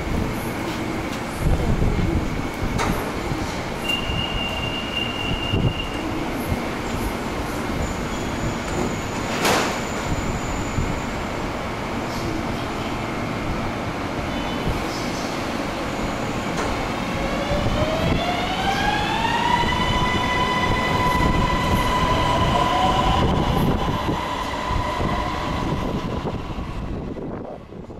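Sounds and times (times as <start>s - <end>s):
metro train rumble: 0.0s - 27.9s.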